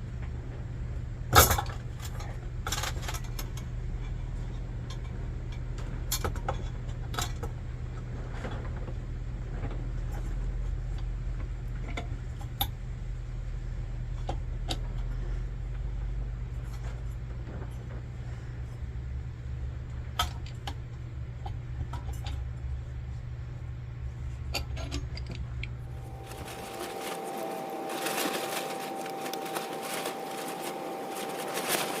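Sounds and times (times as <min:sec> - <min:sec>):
faint steady whine: 0:00.0 - 0:32.0
low steady hum: 0:00.0 - 0:32.0.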